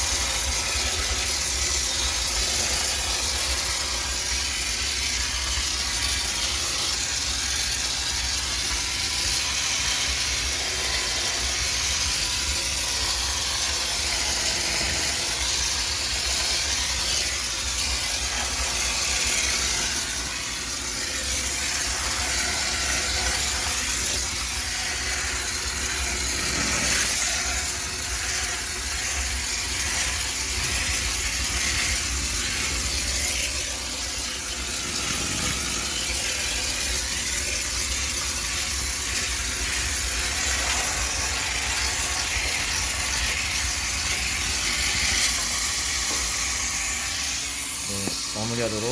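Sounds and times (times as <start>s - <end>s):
steam cleaner hissing: 0.0s - 48.9s.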